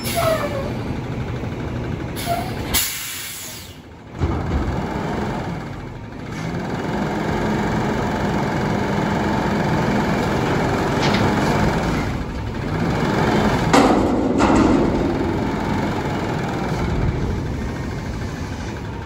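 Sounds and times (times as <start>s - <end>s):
garbage truck engine running: 0.0s - 19.0s.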